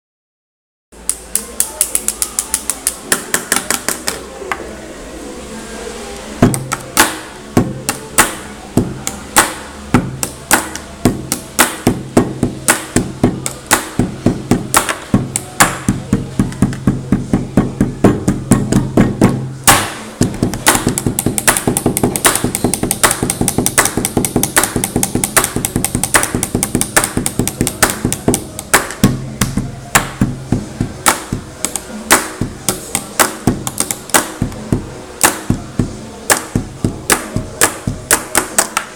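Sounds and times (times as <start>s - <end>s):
music backing track: 1.0s - 38.9s.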